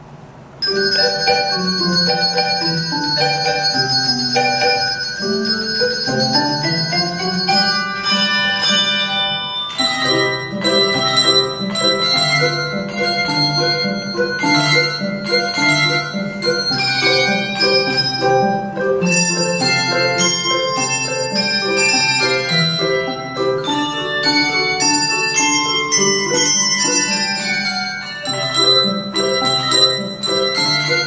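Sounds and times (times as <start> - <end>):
handbell choir ringing: 0.6 - 31.0.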